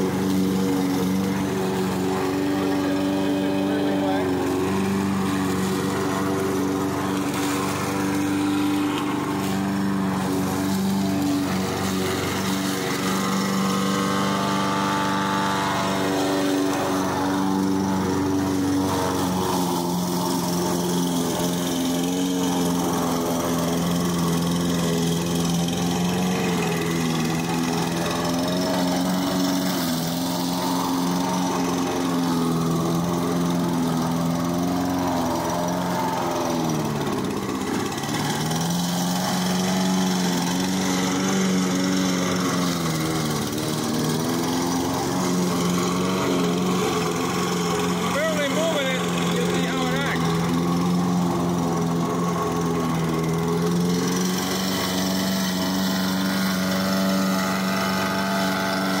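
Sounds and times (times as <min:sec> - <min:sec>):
lawn mower engine cutting grass: 0:00.0 - 0:59.0.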